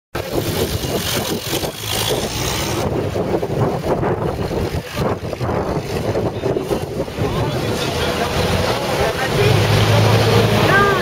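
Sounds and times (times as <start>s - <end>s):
military vehicle engines rumbling: 0.2s - 11.0s.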